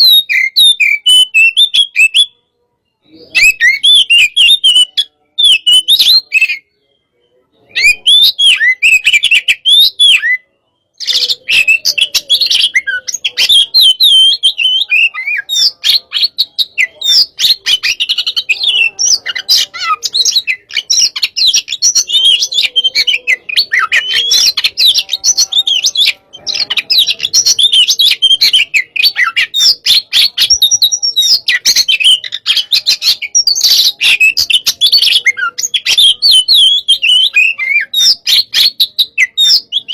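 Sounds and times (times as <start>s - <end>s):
bird singing fast chirps and whistles: 0.0s - 2.4s, 3.0s - 7.0s, 7.6s - 39.9s.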